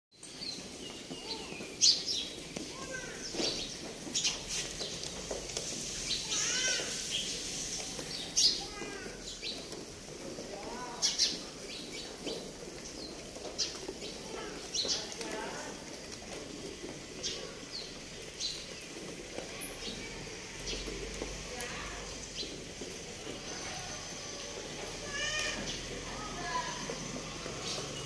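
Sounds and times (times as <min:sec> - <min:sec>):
small birds chirping: 0:00.1 - 0:28.0
steady background noise: 0:00.2 - 0:28.0.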